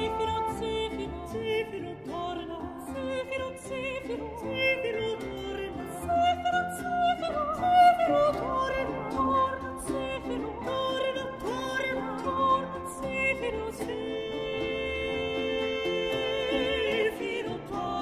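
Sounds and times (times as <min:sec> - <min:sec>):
singing with vibrato: 0:00.0 - 0:18.0.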